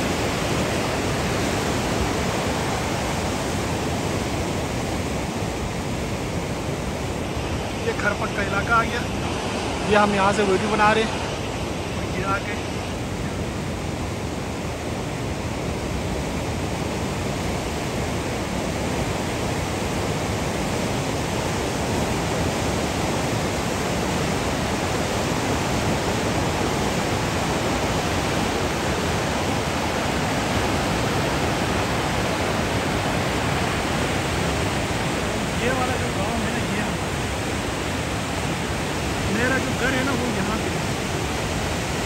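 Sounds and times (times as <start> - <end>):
river rushing over boulders: 0.0 - 42.0.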